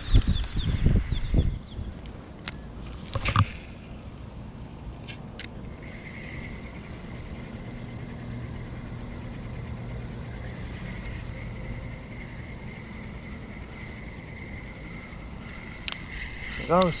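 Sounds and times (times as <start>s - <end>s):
small motor humming and whining: 2.8s - 17.0s.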